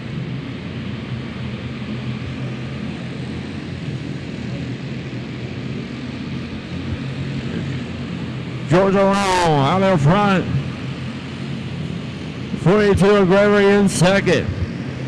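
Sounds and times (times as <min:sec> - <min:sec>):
kart engines droning: 0:00.0 - 0:15.0.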